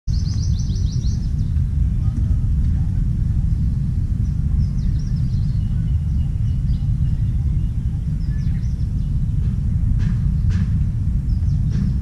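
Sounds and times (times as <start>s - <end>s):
birds chirping: 0.1s - 12.0s
low outdoor rumble: 0.1s - 12.0s.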